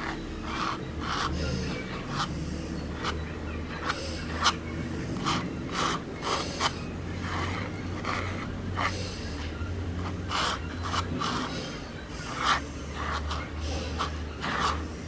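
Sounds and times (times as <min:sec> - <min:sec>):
palette knife scraping canvas: 0:00.0 - 0:15.0.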